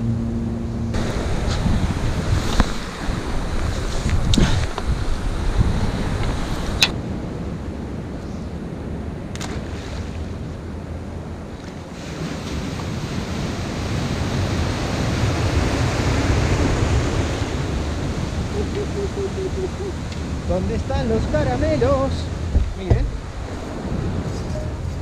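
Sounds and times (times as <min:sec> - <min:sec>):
wind on microphone: 0:00.0 - 0:25.0
sea surf breaking: 0:00.9 - 0:25.0.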